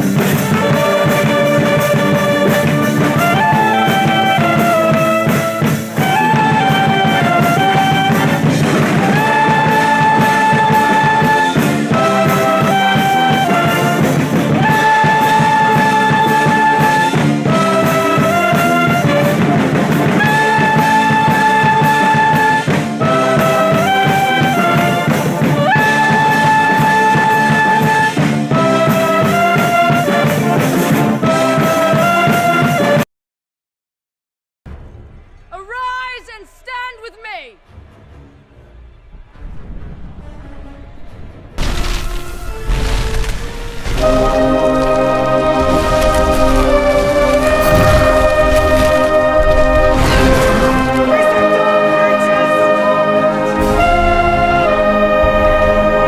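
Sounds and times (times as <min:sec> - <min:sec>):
marching band brass playing: 0:00.0 - 0:33.0, 0:34.7 - 0:56.0.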